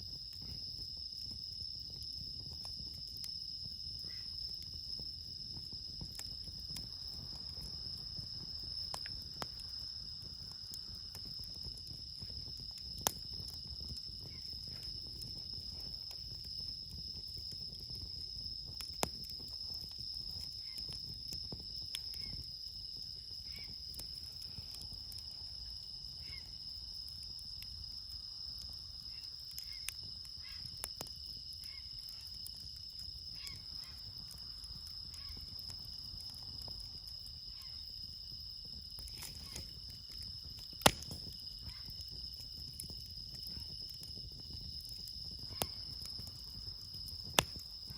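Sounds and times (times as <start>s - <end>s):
campfire crackling: 0.0s - 47.9s
night insects chirping: 0.0s - 47.9s.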